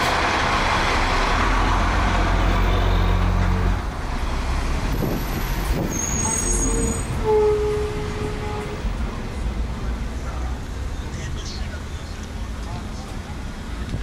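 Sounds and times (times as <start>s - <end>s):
bus engine drone: 0.0s - 14.0s
road noise: 0.0s - 14.0s.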